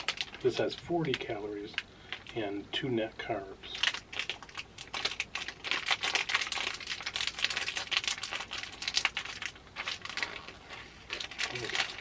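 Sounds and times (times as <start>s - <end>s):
wrapper crinkling: 0.0s - 2.4s, 3.7s - 12.0s.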